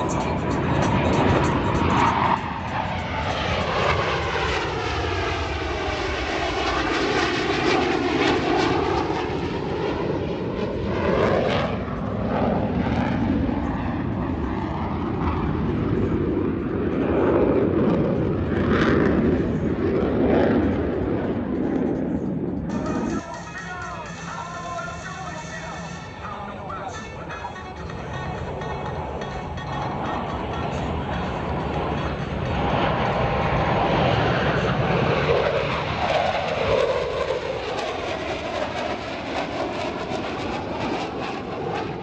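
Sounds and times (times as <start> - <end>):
jets flying past: 0.0 - 42.0.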